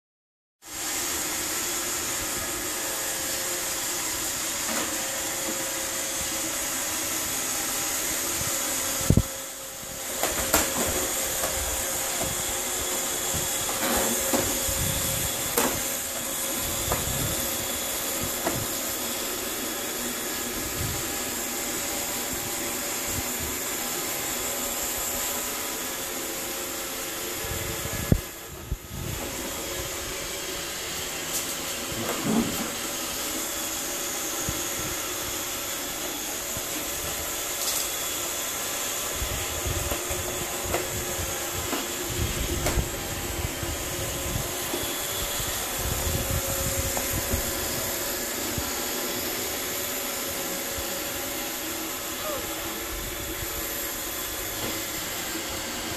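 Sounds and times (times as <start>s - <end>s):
robot vacuum whirring: 0.7s - 55.9s.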